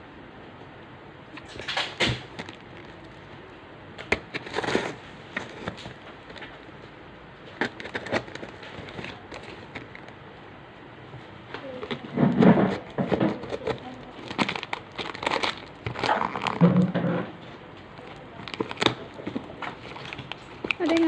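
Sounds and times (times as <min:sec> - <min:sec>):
plastic packaging crinkling: 0:01.4 - 0:03.4, 0:04.0 - 0:06.8, 0:07.4 - 0:10.2, 0:11.5 - 0:21.0.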